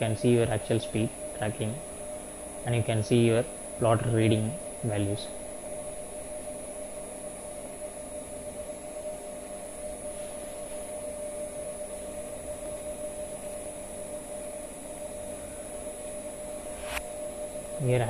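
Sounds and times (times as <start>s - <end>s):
thin high motor whine: 0.0s - 18.0s.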